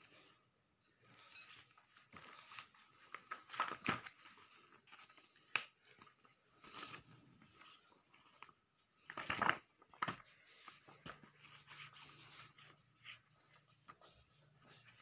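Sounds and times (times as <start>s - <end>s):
magazine pages rustling: 1.6s - 15.0s.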